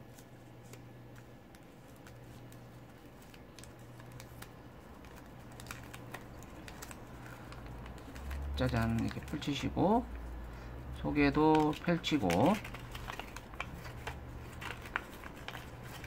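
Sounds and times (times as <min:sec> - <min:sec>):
paper crinkling and clicking: 0:00.0 - 0:10.3, 0:11.1 - 0:16.0
low steady hum: 0:00.0 - 0:16.0.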